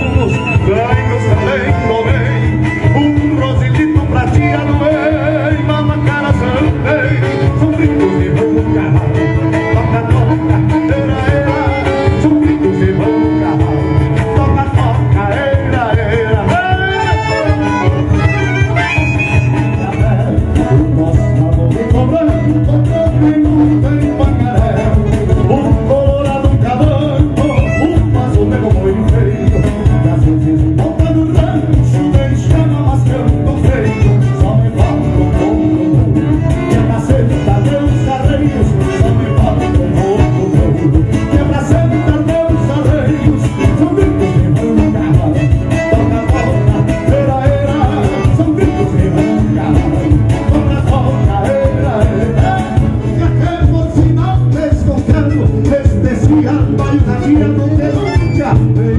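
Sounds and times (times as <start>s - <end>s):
piano accordion: 0.0s - 54.0s, 55.0s - 58.9s
acoustic guitars: 0.0s - 58.9s
drums keeping a beat: 0.0s - 58.9s.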